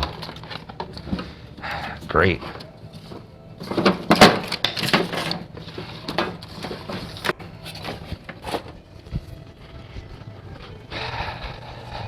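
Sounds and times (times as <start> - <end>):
rustling and clattering: 0.0 - 12.0.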